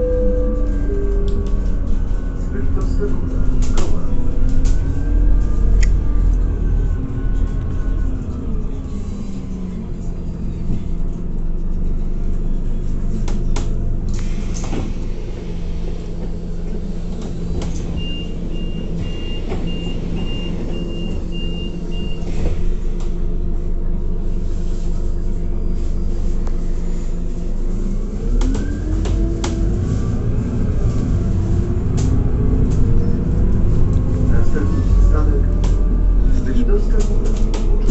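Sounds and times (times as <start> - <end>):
bus engine and driveline whine: 0.0 - 37.9
bus engine idling: 0.0 - 37.9.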